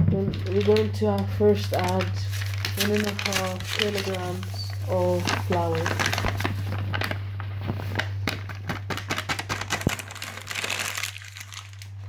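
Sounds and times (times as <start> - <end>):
paper bag crinkling: 0.3 - 12.0.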